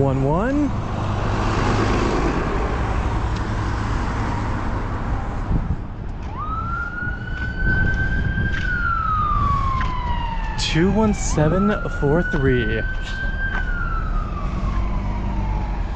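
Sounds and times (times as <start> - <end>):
emergency vehicle siren wailing: 0.0 - 15.9
street traffic rumble: 0.0 - 15.9.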